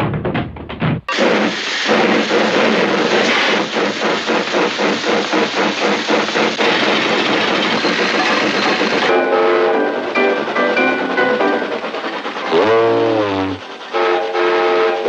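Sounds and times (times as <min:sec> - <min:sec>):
steam train chugging: 0:01.1 - 0:15.0.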